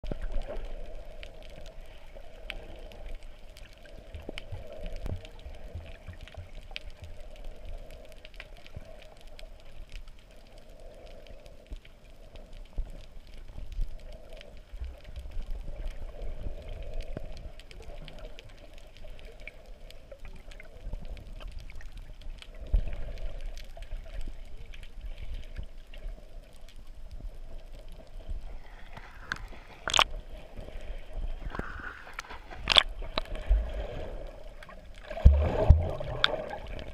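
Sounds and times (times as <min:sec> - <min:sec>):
low underwater rumbling: 0:00.0 - 0:36.9
muffled underwater water movement: 0:00.0 - 0:36.9
faint clicks: 0:00.1 - 0:36.9.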